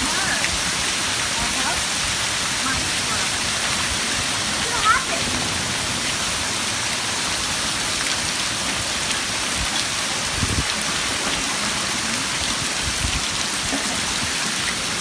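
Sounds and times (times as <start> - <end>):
heavy rain: 0.0 - 15.0
rushing flood water: 0.0 - 15.0.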